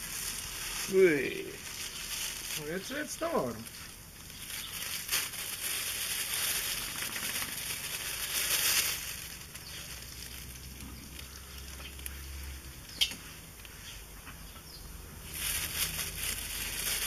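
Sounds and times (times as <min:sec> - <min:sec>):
plastic bag rustling: 0:00.0 - 0:13.5, 0:15.2 - 0:17.0.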